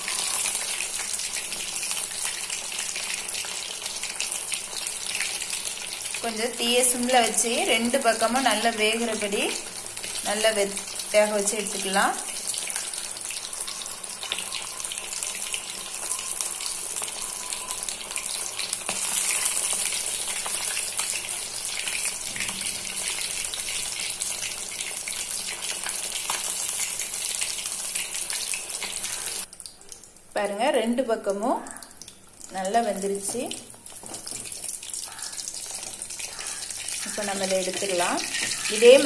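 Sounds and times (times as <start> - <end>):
fish sizzling in hot oil: 0.0 - 30.3, 31.9 - 39.0.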